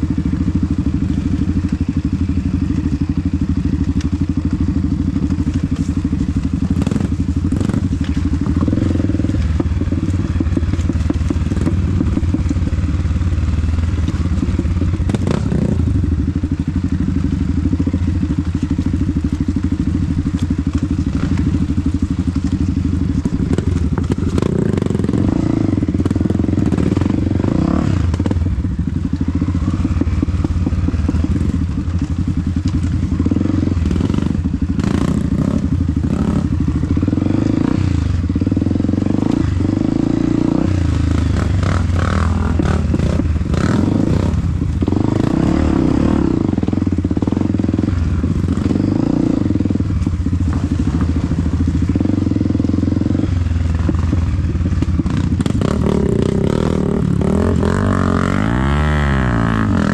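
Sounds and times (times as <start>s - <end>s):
motorcycle engine revving: 0.0s - 59.9s
motorcycle knocks and clatters: 0.0s - 59.9s.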